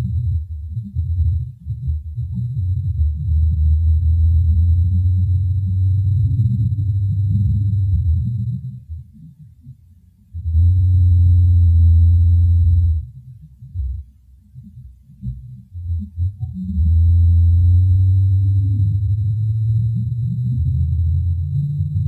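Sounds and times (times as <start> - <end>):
insect buzzing hum: 0.0 - 8.8, 10.4 - 13.1, 15.2 - 22.0.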